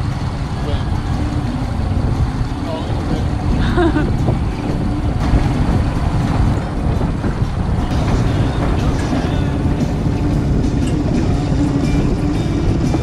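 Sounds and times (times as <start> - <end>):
water washing along hull: 0.0 - 13.0
wind buffeting microphone: 0.0 - 13.0.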